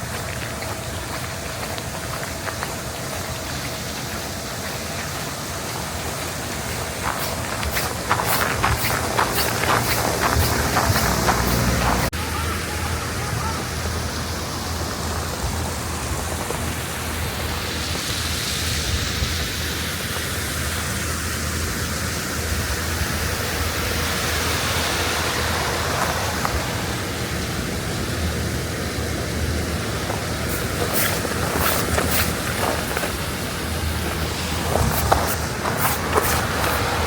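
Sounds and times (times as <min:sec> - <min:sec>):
running water rushing: 0:00.0 - 0:37.0.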